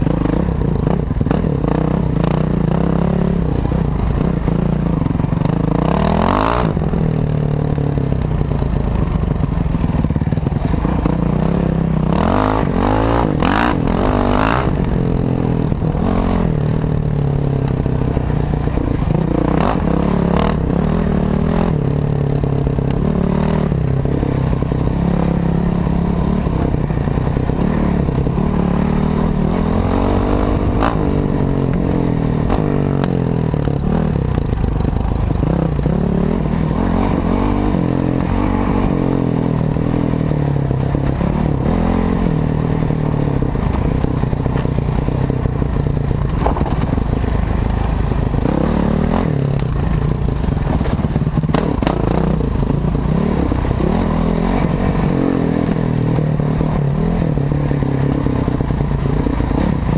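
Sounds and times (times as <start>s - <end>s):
dirt bike engine revving: 0.0s - 8.0s, 9.0s - 17.1s, 17.9s - 44.0s, 48.2s - 59.9s.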